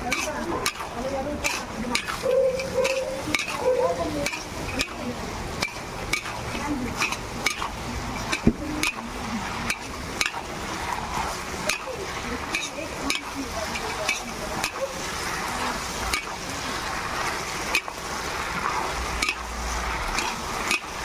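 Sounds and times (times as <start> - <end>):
metal spatula scraping wok: 0.0 - 21.0
sauce sizzling: 0.0 - 21.0.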